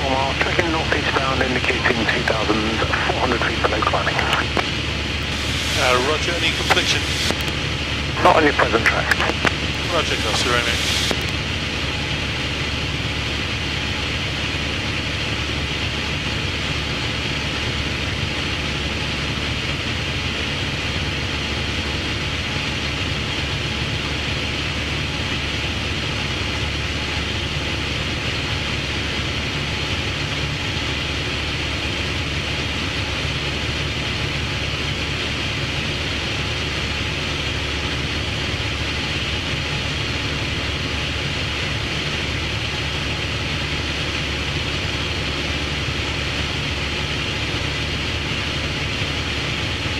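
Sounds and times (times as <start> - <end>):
light aircraft engine drone: 0.0 - 49.9.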